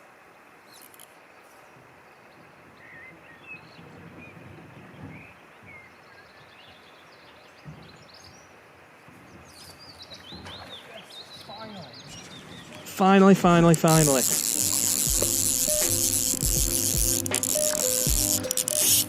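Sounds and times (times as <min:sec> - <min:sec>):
small birds chirping: 0:00.6 - 0:19.0.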